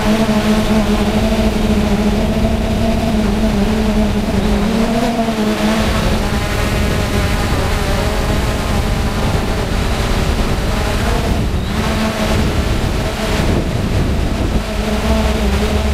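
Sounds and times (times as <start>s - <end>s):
drone propellers humming: 0.0s - 15.9s
wind rumbling on microphone: 0.0s - 15.9s.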